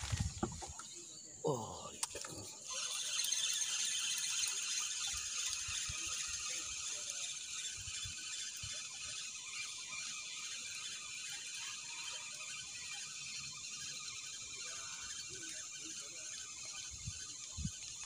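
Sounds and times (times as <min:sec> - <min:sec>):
fishing reel whirring and clicking: 0:02.0 - 0:18.0.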